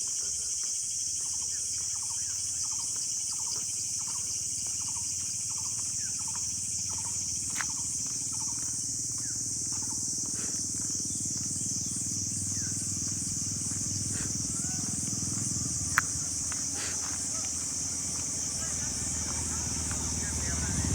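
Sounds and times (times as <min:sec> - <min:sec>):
insects chorus: 0:00.0 - 0:20.9.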